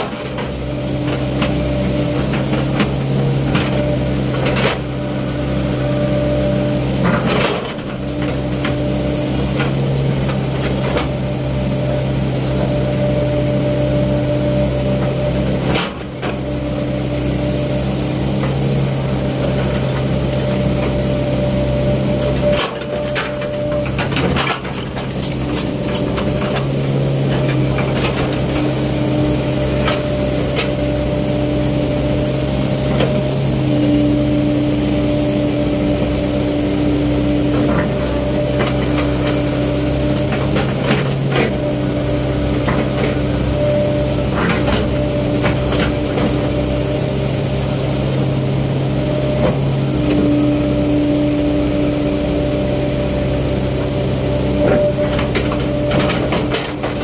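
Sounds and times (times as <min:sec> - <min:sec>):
excavator engine and hydraulic hum: 0:00.0 - 0:57.0.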